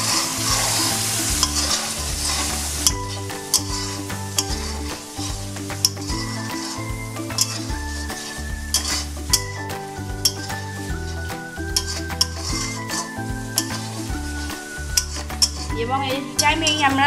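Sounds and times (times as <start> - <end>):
spatula scraping metal pan: 0.0 - 16.9
gravy sizzling: 0.0 - 17.0
soft background music: 0.0 - 17.0.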